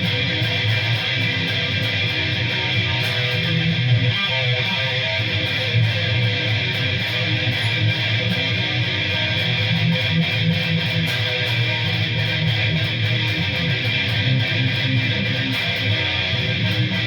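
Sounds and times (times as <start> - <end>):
distorted electric guitar riffs: 0.0 - 17.0.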